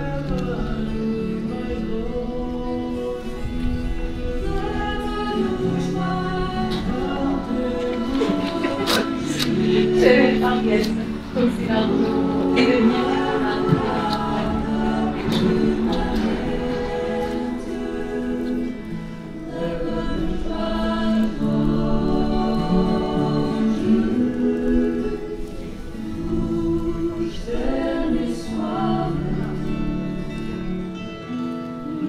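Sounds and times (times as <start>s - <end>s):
choir singing: 0.0s - 32.0s.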